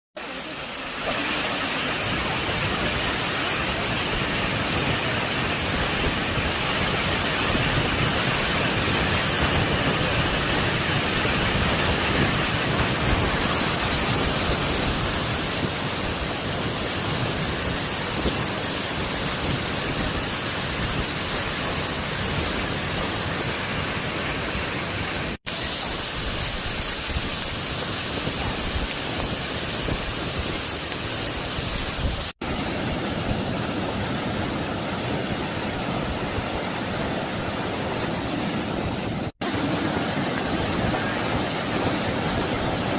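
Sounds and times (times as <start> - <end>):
waterfall pouring into pool: 0.2 - 38.6.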